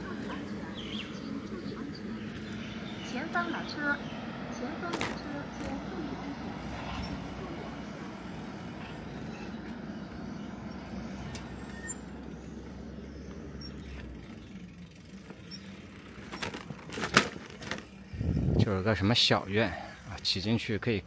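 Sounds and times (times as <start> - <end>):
car passing: 0.0 - 21.0.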